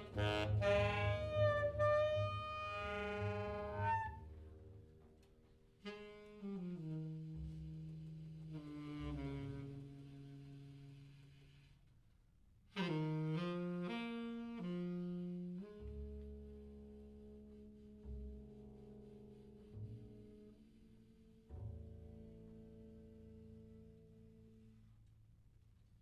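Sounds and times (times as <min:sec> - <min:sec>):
saxophone low sliding notes: 0:00.0 - 0:04.9, 0:05.8 - 0:12.0, 0:12.7 - 0:22.8.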